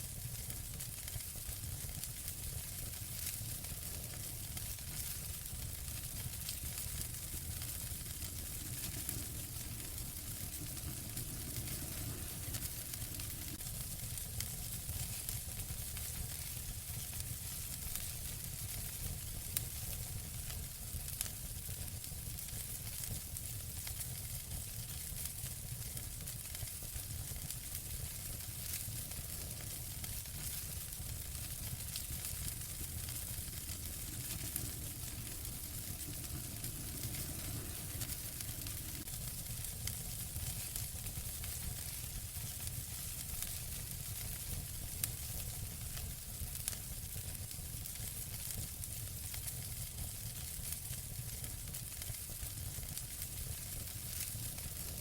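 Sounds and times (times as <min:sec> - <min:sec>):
wood fire crackling: 0:00.0 - 0:55.0
sharp fire pops: 0:00.4 - 0:18.4, 0:22.4 - 0:49.6.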